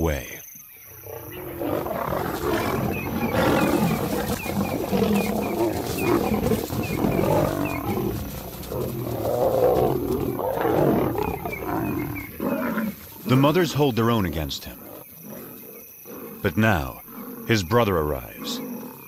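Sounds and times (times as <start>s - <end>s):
lions snarling and growling: 0.9s - 19.0s.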